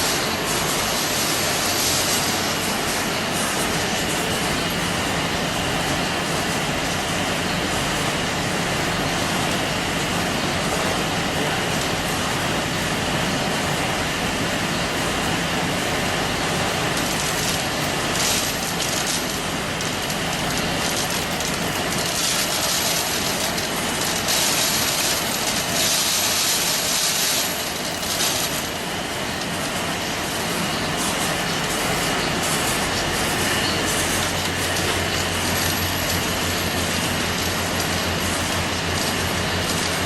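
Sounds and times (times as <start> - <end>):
furnace machinery rumbling: 0.0 - 40.0.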